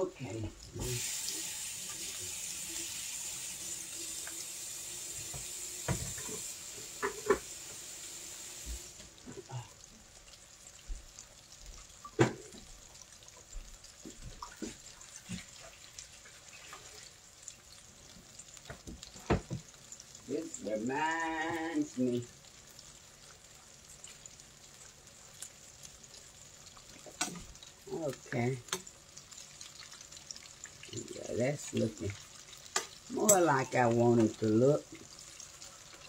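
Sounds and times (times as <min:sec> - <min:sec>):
chicken deep-frying in oil: 0:00.0 - 0:36.0.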